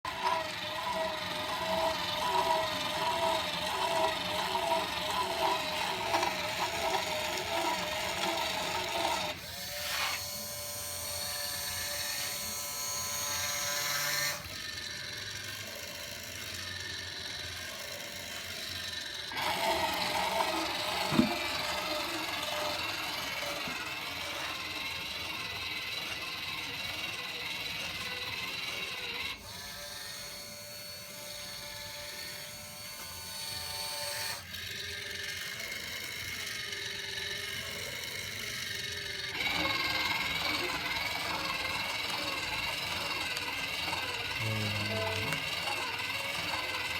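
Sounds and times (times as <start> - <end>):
small drill motor whining: 0.0 - 46.9.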